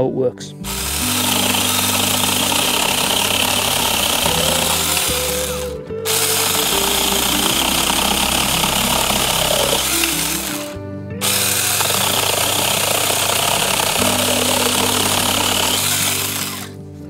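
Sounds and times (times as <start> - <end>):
chainsaw cutting wood: 0.6 - 16.8.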